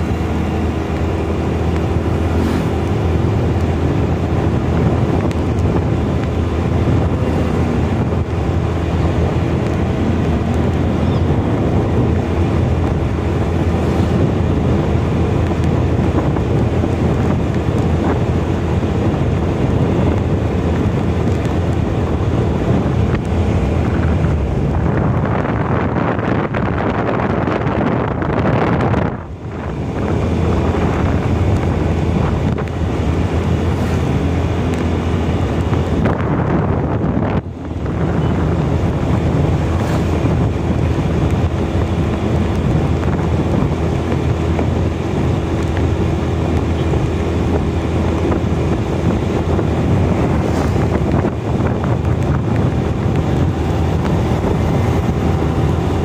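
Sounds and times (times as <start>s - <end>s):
scooter engine running: 0.0s - 56.0s
tyres on road: 0.0s - 56.0s
wind buffeting microphone: 0.0s - 56.0s.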